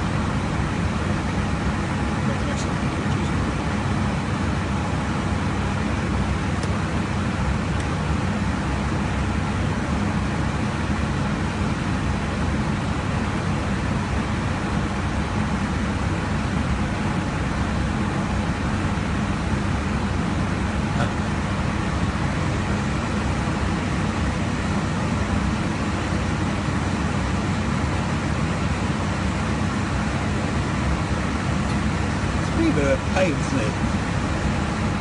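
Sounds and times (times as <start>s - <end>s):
aircraft cockpit air and engine rush: 0.0s - 35.0s.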